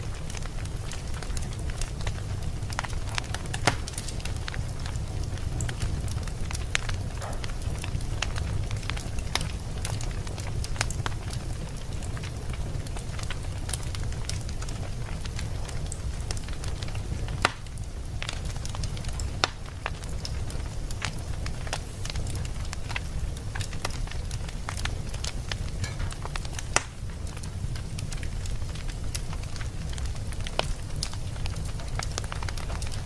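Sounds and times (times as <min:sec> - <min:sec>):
fire crackling and popping: 0:00.0 - 0:33.0
fire rumbling: 0:00.0 - 0:33.0.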